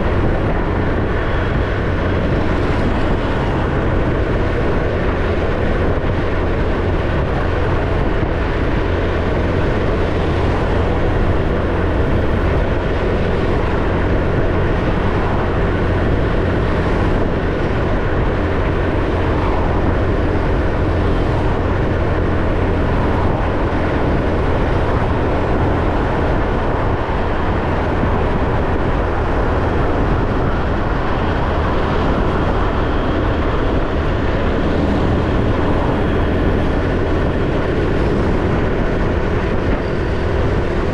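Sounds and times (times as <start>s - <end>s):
motorbike engine cruising: 0.0s - 40.9s
road noise: 0.0s - 40.9s.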